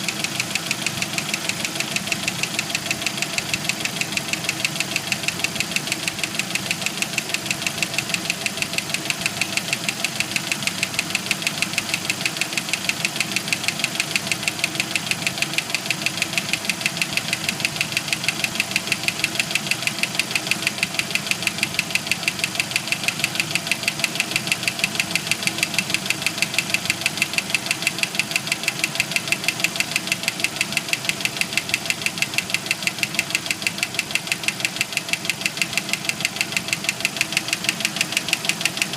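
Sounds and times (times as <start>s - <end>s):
engine running with rapid knock: 0.0s - 38.9s.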